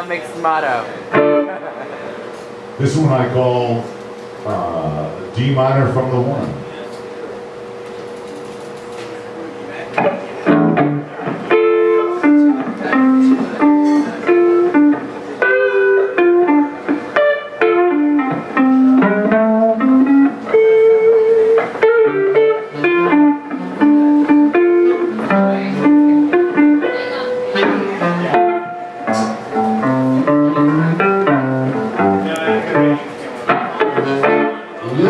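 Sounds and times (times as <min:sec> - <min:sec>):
electric guitar melody: 0:00.0 - 0:03.8, 0:09.9 - 0:35.0.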